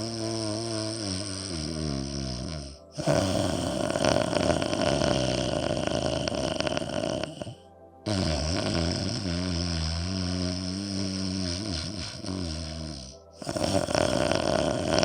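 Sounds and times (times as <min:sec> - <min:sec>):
hissing breath: 0:00.0 - 0:15.0
snore-like breathing drone: 0:00.0 - 0:15.0.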